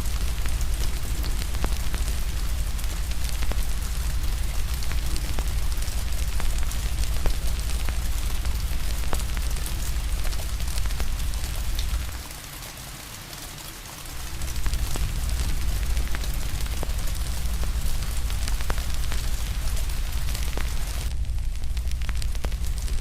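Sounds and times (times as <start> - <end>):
deep low rumble: 0.0 - 12.2, 14.2 - 23.0
steady rain hiss: 0.0 - 23.0
wood fire crackling: 0.0 - 23.0.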